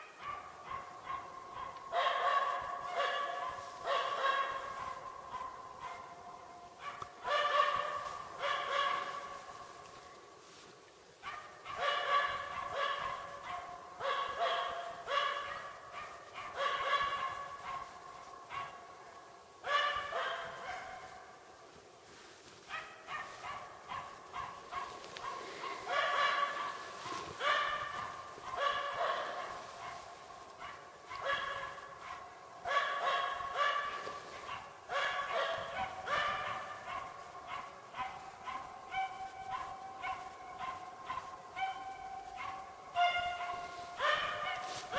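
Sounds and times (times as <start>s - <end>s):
dog barking rapidly: 0.2s - 9.4s, 11.2s - 18.9s, 19.7s - 21.1s, 22.7s - 44.9s.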